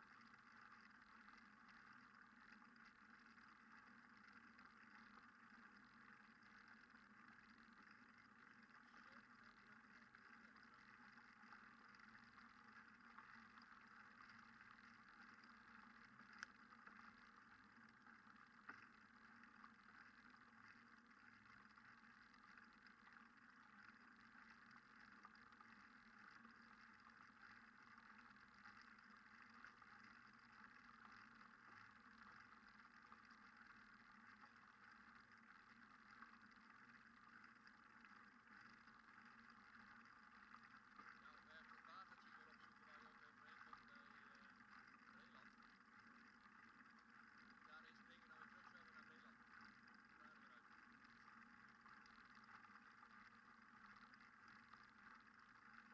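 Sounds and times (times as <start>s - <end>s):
faint clicks: 0.0s - 55.9s
faint steady noise: 0.0s - 55.9s.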